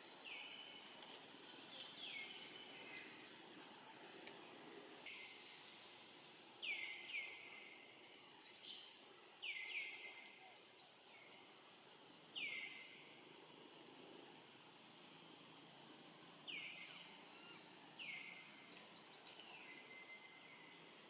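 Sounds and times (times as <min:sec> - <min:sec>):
faint high chirps and ticks: 0:00.0 - 0:05.4, 0:06.6 - 0:21.0.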